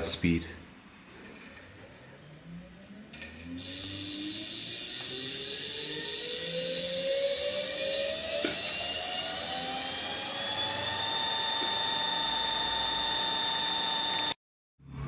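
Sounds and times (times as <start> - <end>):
high-pitched electrical whine: 0.0 - 15.0
electric motor hum rising in pitch: 0.8 - 15.0.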